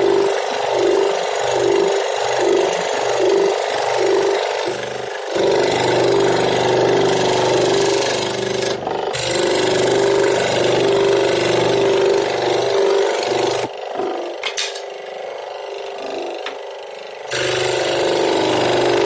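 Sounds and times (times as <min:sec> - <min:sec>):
power tool working wood: 0:00.0 - 0:19.0.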